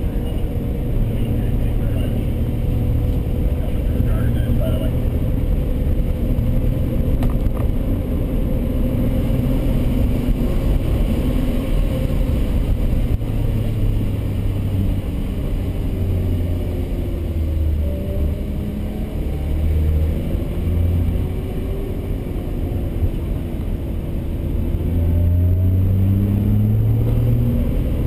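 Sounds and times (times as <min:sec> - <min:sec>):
car engine drone from inside: 0:00.0 - 0:28.0.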